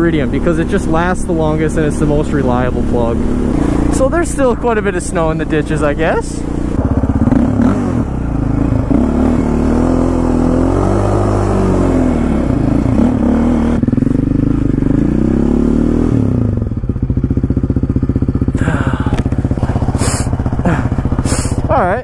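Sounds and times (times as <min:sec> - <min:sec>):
quad engine revving and idling: 0:00.0 - 0:22.0.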